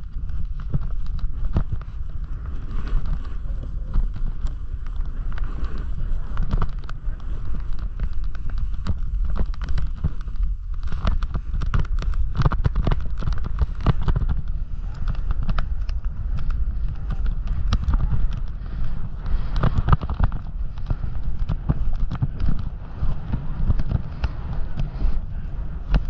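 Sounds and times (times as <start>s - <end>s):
snowboard clattering over bumps: 0.0s - 26.0s
snowboard rumbling over snow: 0.0s - 26.0s.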